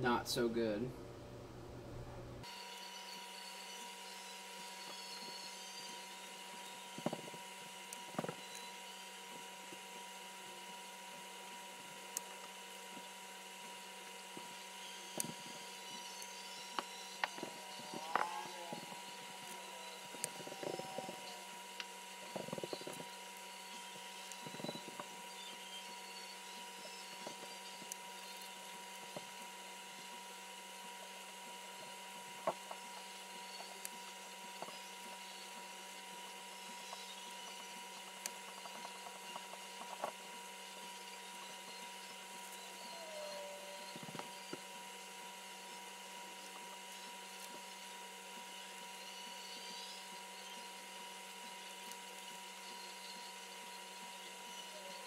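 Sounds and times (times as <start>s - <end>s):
faint electrical hum: 0.0s - 55.0s.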